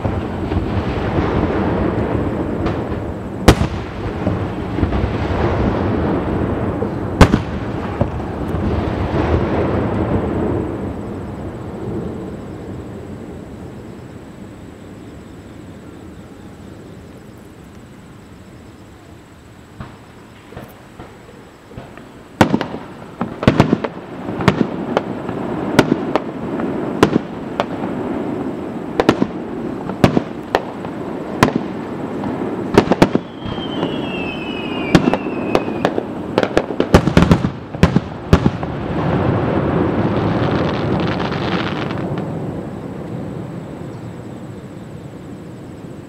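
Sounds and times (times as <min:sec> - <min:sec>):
falling firework whistles: 0:00.0 - 0:13.0, 0:15.2 - 0:46.0.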